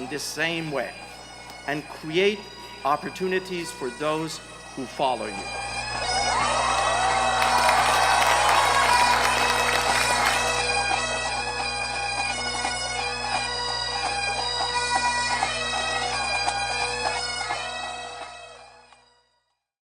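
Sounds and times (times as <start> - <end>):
bagpipes playing: 0.0 - 19.1.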